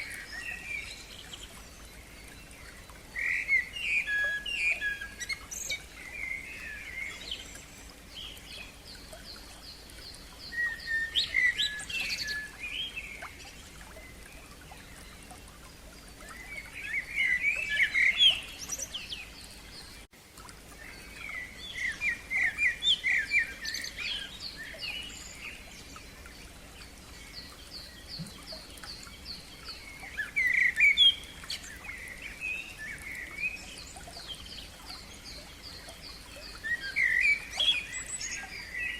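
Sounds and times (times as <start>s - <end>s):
songbirds warbling: 0.0s - 38.9s.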